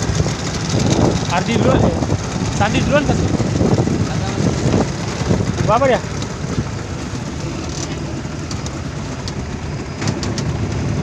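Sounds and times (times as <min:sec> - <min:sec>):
motorboat engine running: 0:00.0 - 0:11.0
wind and water rumble: 0:00.0 - 0:11.0.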